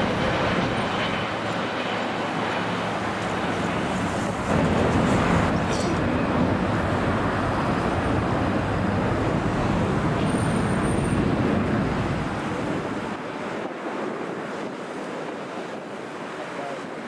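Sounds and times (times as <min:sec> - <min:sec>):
jet engines roaring: 0:00.0 - 0:14.4.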